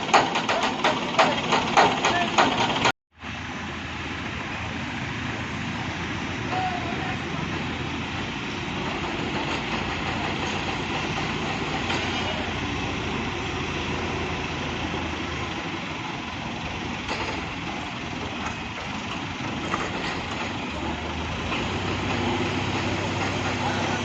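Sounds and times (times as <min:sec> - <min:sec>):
heavy vehicle engine idling: 0:00.0 - 0:24.0.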